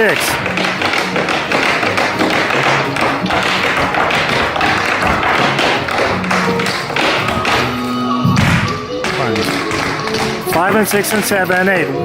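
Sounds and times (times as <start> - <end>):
tap shoes on hard floor: 0.0 - 11.4.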